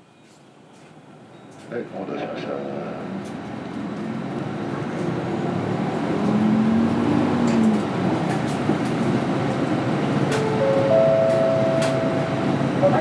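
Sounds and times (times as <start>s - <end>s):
bus diesel engine droning: 1.0s - 13.0s.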